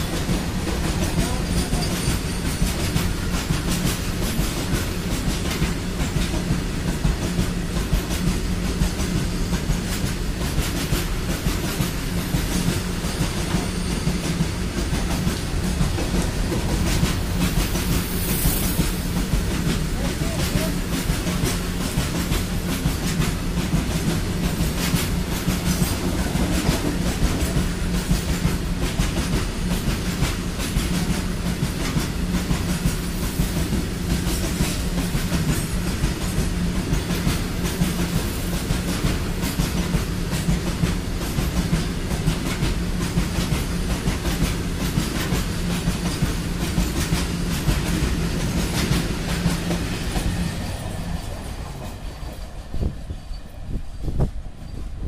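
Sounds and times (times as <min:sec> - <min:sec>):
train wheels clattering over rail joints: 0:00.0 - 0:55.0.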